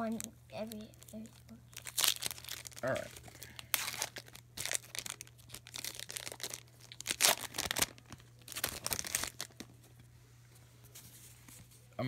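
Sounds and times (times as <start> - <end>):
foil pack tearing and crinkling: 0.0 - 9.7
quiet wrapper handling: 0.0 - 10.1.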